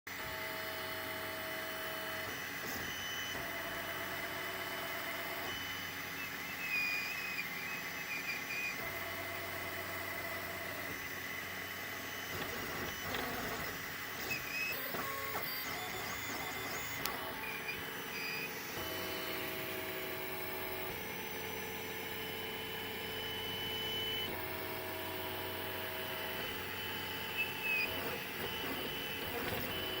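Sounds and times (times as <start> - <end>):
stepper motors whining: 0.8 - 30.0.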